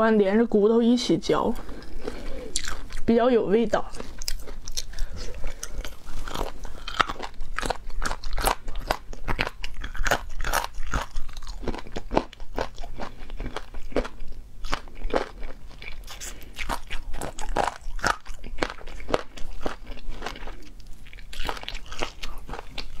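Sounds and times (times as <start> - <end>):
chewing crunchy chicken feet: 1.6 - 3.1, 3.8 - 23.0.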